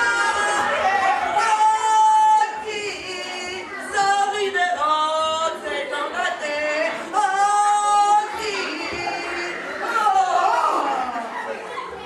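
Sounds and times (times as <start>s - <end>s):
person singing wordless notes: 0.0s - 11.1s.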